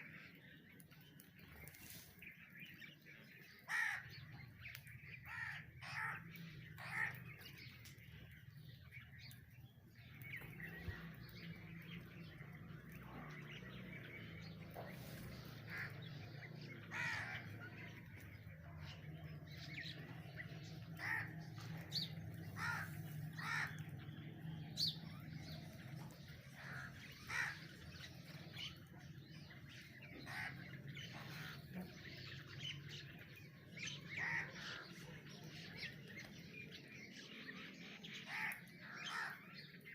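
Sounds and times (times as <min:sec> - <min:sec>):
birds calling and chirping: 0:00.0 - 0:39.9.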